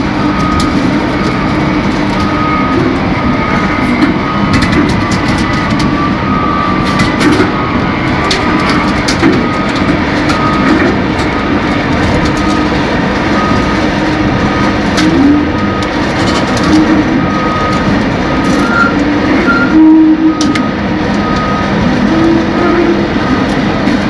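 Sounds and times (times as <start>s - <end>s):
heavy machinery running: 0.0s - 24.0s.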